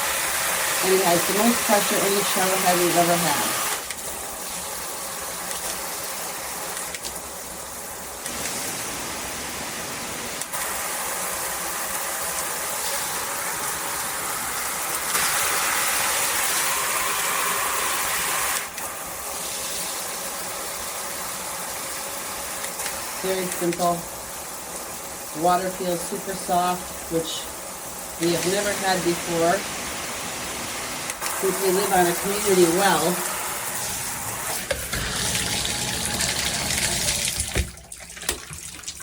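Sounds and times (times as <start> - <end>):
water spraying from shower head: 0.0 - 38.4.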